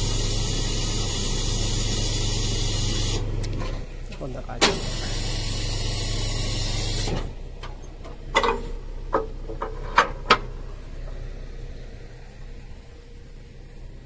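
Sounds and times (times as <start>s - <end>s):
deck-lowering unit whirring: 0.0s - 14.0s.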